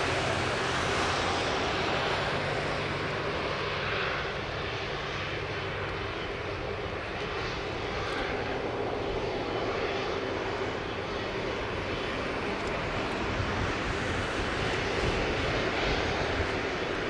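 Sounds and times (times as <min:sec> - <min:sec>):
faint engine whine: 0:00.0 - 0:17.0
jet engines running: 0:00.0 - 0:17.0.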